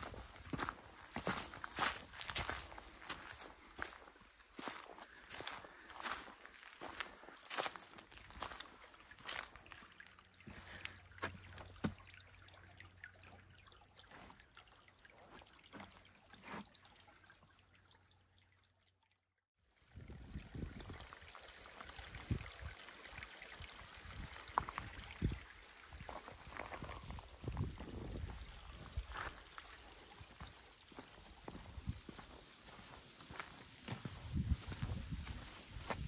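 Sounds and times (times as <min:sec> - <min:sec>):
creek trickling: 0:00.0 - 0:36.0.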